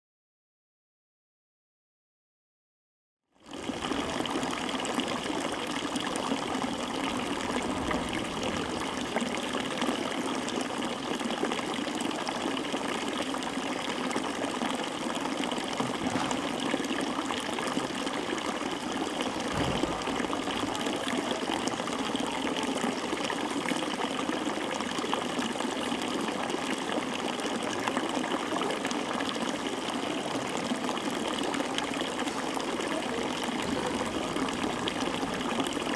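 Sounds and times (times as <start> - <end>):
water rushing: 3.4 - 35.9.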